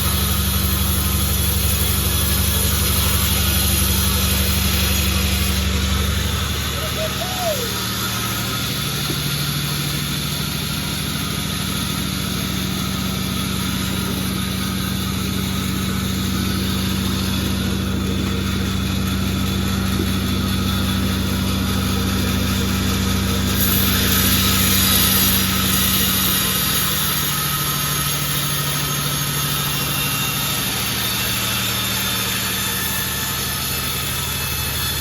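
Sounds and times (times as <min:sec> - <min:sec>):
sawmill engine running: 0:00.0 - 0:35.0.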